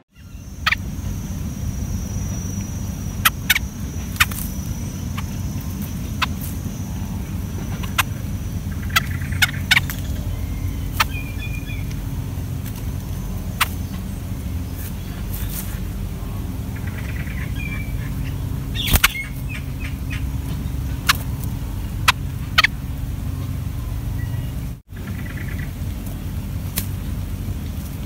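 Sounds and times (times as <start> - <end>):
low rumble: 0.0 - 28.0
faint high whine: 0.1 - 24.8.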